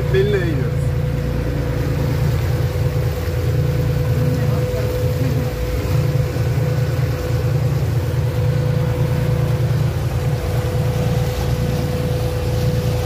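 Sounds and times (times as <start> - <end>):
motor boat engine droning: 0.0 - 13.0.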